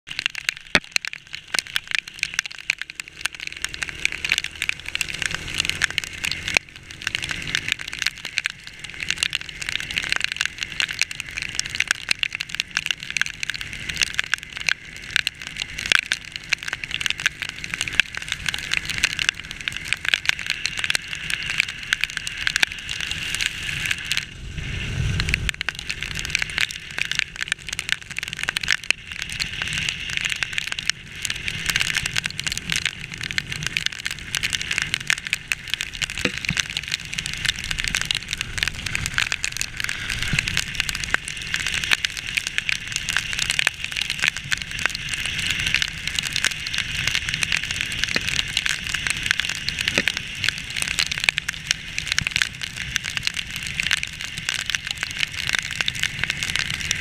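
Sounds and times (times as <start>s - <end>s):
heavy rain hitting camera: 0.1s - 57.0s
low rumble: 1.3s - 49.0s.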